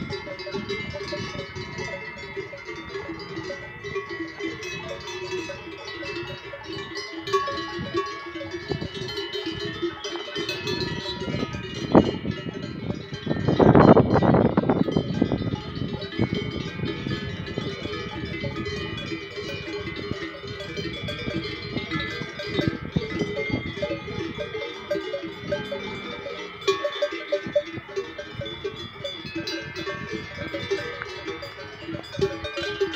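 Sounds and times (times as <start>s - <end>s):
cowbells clanking: 0.0s - 32.9s.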